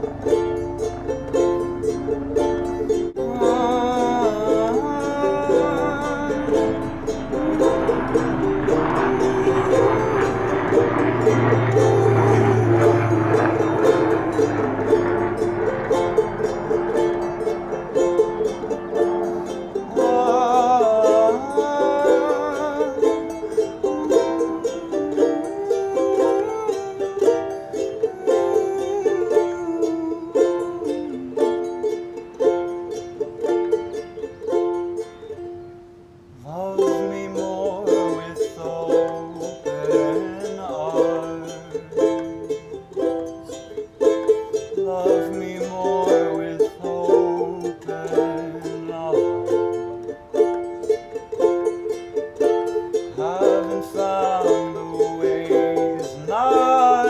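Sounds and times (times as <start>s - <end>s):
charango strummed and picked: 0.0s - 57.0s.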